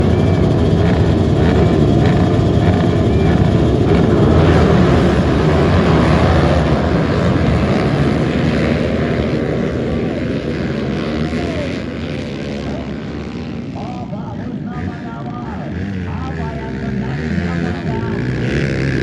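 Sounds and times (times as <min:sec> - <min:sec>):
motocross bikes running hard: 0:00.0 - 0:19.0.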